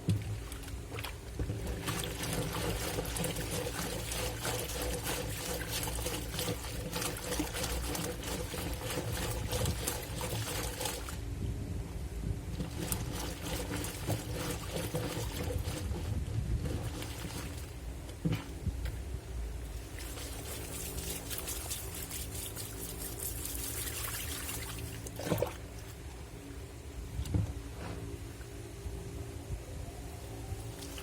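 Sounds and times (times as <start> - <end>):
water sloshing in washing machine: 0.0 - 11.3, 12.2 - 28.5, 30.5 - 31.0
motor hum: 0.0 - 31.0.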